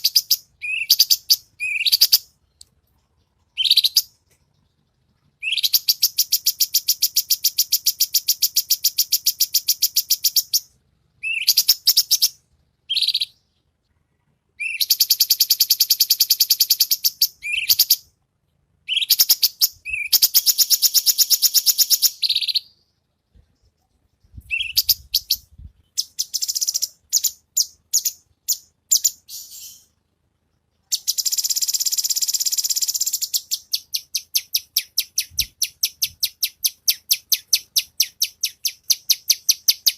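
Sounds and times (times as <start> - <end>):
bird singing rapid trills: 0.0 - 13.7, 14.6 - 18.1, 18.9 - 23.0, 23.6 - 39.9.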